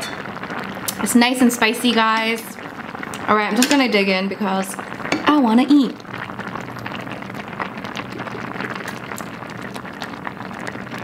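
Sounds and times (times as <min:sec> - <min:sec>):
soup bubbling in a pot: 0:00.0 - 0:11.0.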